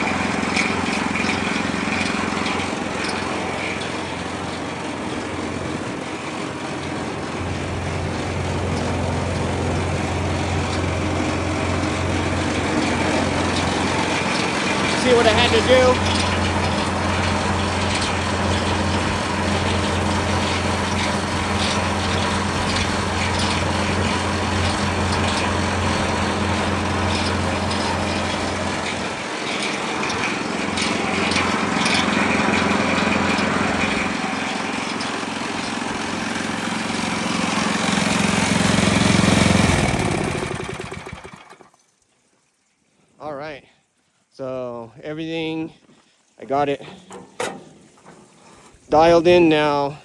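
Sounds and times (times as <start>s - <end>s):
small engine humming: 0.0s - 41.9s.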